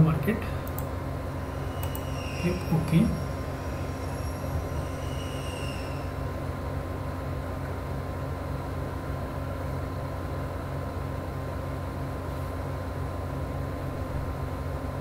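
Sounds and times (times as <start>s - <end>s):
faint steady whine: 0.0s - 15.0s
low background hum and hiss: 0.0s - 15.0s.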